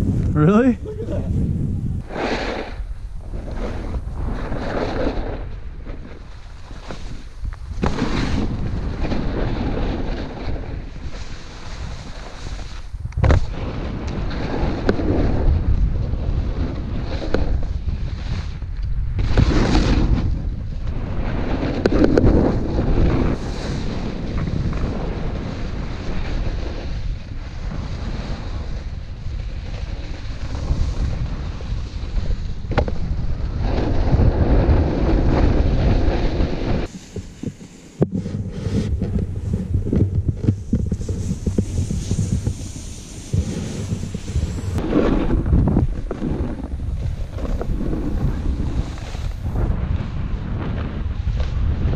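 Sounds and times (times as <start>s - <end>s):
snowboard scraping packed snow: 0.0s - 51.9s
wind buffeting microphone: 0.0s - 51.9s.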